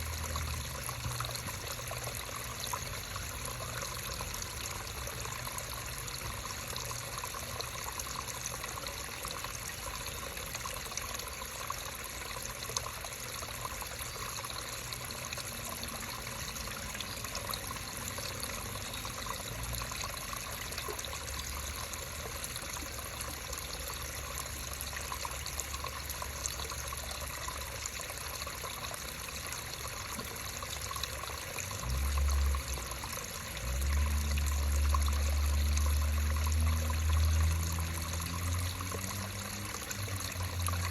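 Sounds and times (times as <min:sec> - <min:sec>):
creek water trickling: 0:00.0 - 0:40.9.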